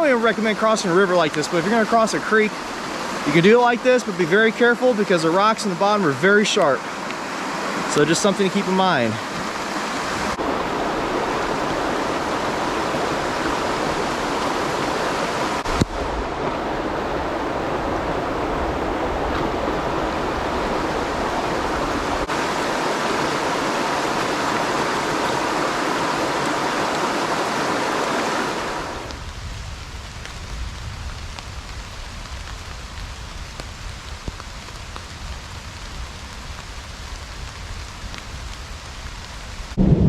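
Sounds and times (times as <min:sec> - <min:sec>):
creek water running: 0:00.0 - 0:39.8.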